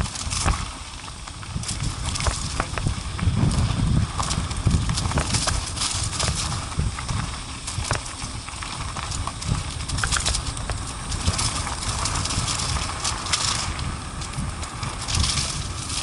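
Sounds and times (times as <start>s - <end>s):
atv engine rumble: 0.0s - 16.0s
wheels clattering on stones: 0.0s - 16.0s.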